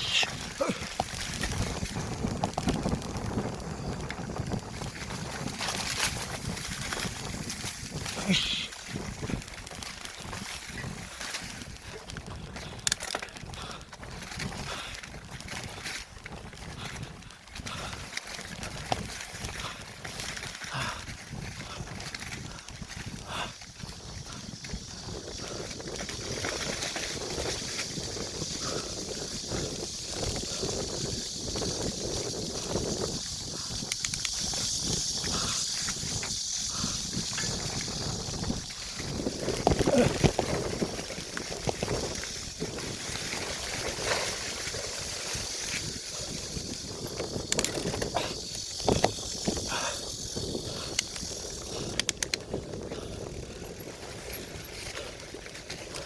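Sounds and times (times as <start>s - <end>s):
bicycle rattling over rough trail: 0.0s - 56.0s
bike tyres rumbling on dirt: 0.0s - 56.0s
wind on microphone: 0.0s - 56.0s.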